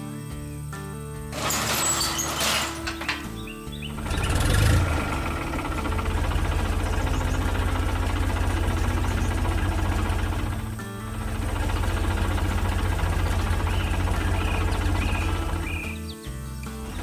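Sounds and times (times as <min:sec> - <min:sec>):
large engine chugging: 0:01.3 - 0:17.0.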